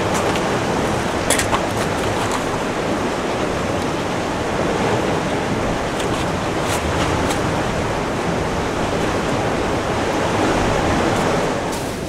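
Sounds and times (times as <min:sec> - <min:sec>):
ocean surf on rocks: 0:00.0 - 0:12.0.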